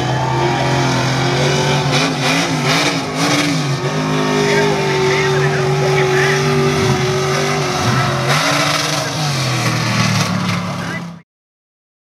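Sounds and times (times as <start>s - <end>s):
truck engine revving: 0.0s - 11.2s.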